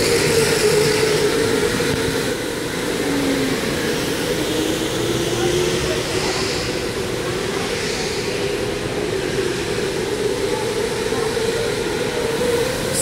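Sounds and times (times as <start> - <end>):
electric go-kart motors whining: 0.0 - 13.0.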